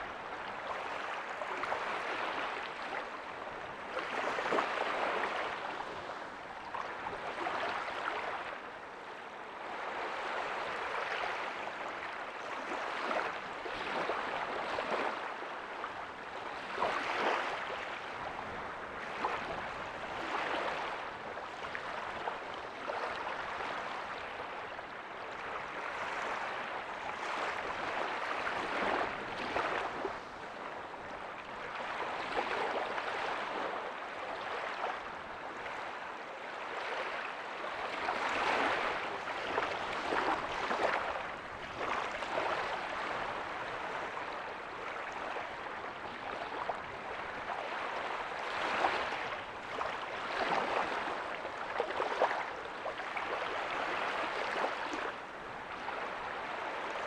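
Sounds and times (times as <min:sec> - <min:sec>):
small waves breaking on a beach: 0:00.0 - 0:57.0.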